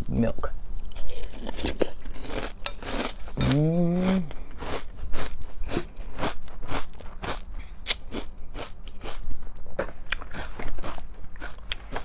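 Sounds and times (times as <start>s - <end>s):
person chewing crunchy cereal: 1.0s - 12.0s.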